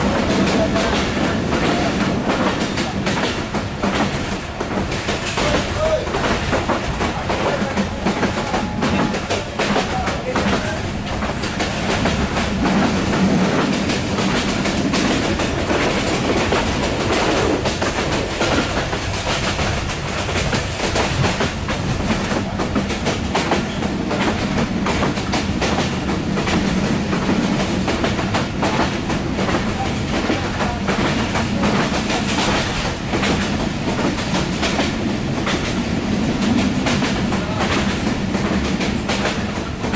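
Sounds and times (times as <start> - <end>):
train rumble inside coach: 0.0 - 39.9.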